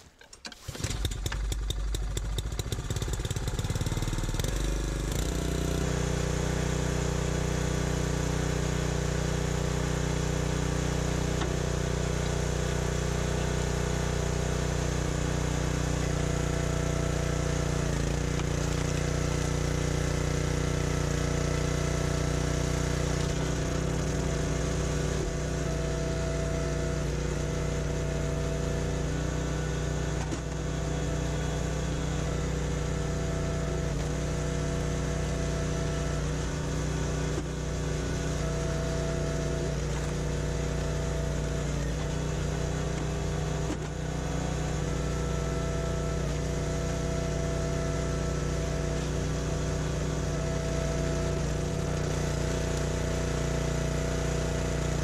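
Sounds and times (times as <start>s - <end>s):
small engine starting and running: 0.0s - 55.0s.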